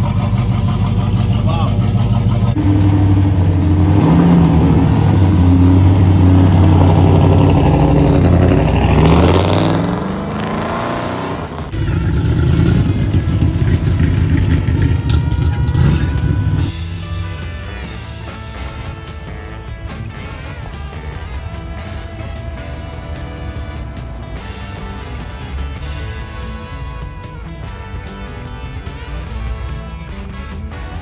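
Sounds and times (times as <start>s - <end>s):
hot rod engines driving past: 0.0s - 31.0s
rough noisy engine running: 0.0s - 31.0s.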